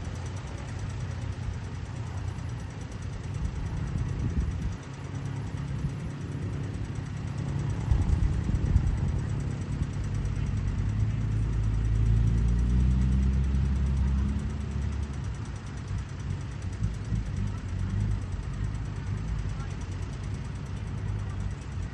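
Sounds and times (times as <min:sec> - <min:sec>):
excavator diesel engine rumbling: 0:00.0 - 0:21.9.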